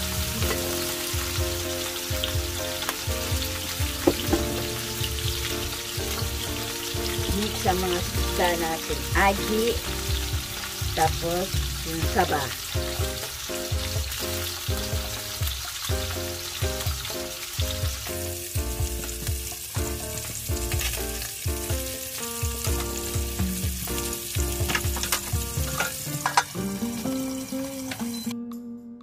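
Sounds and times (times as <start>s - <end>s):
fish sizzling in oil: 0.0s - 28.3s
background music with steady beat: 0.0s - 29.0s.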